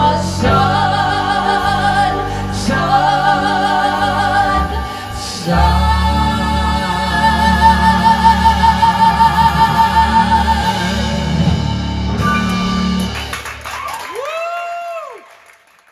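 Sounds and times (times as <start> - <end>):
piano-rock band playing: 0.0 - 14.1.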